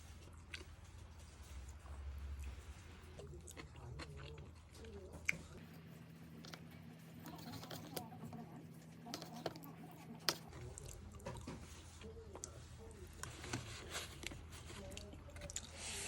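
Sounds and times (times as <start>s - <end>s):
person chewing food: 0.0s - 5.7s, 6.3s - 8.1s, 8.8s - 15.8s.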